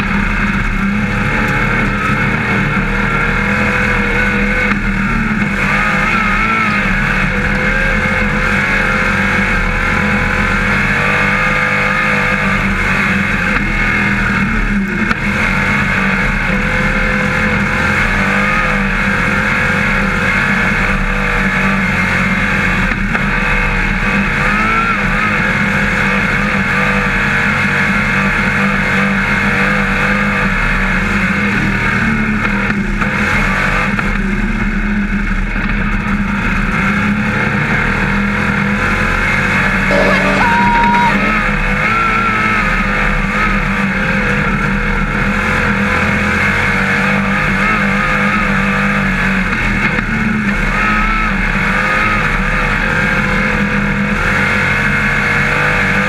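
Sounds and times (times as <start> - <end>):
race car engine droning: 0.0 - 56.0.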